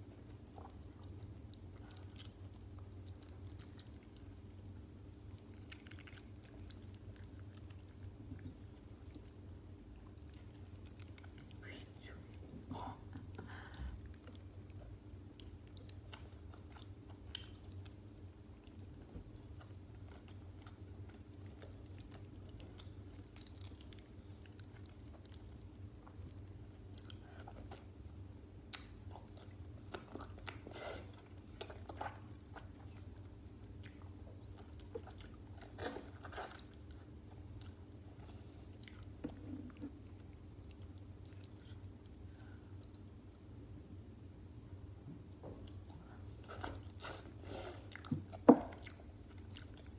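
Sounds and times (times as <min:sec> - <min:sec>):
steady low hum: 0:00.0 - 0:49.9
close-up chewing and biting: 0:00.2 - 0:11.6, 0:13.9 - 0:43.2, 0:45.2 - 0:49.9.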